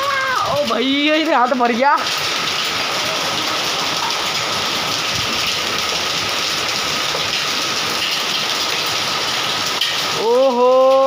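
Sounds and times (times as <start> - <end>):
heavy rain and hail on tiles: 0.0 - 11.0.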